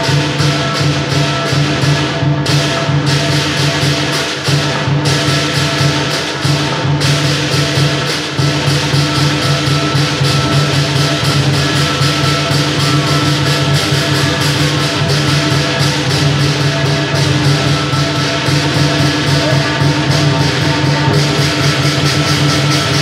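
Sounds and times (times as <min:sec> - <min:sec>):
big drum: 0:00.0 - 0:23.0
cymbals clashing rapidly: 0:00.0 - 0:23.0
ringing gong: 0:00.0 - 0:23.0.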